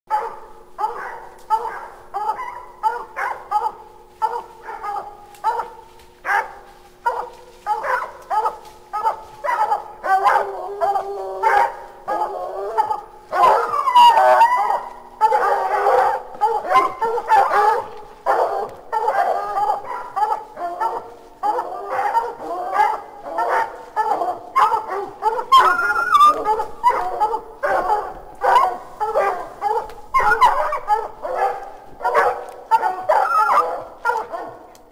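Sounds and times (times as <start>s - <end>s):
hounds barking: 0.1s - 34.9s.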